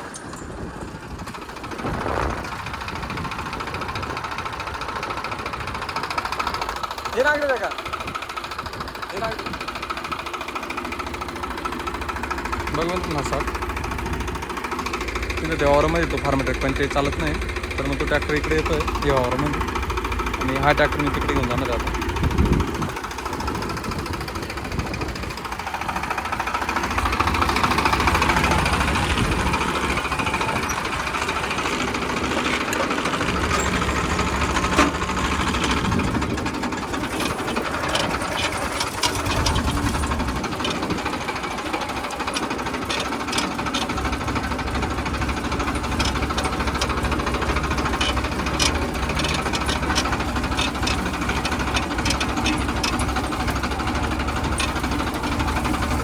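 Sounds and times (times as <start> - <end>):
rapid rattle of clicks: 0.0 - 56.0
tractor diesel engine running: 0.0 - 56.0.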